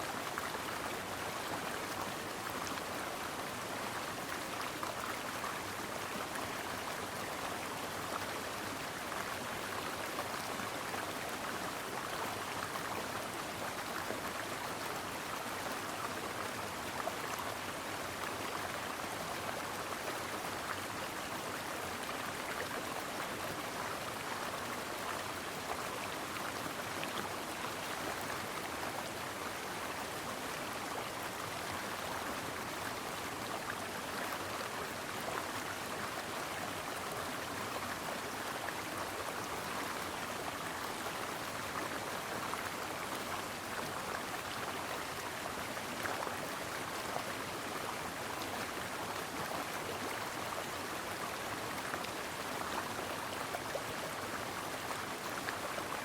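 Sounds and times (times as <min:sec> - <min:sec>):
stream babbling over rocks: 0:00.1 - 0:56.0.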